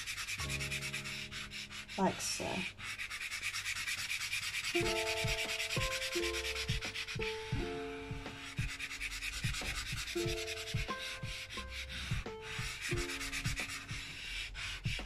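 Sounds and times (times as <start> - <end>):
pastel scratching on paper: 0.0 - 15.0
soft background music: 0.0 - 15.0.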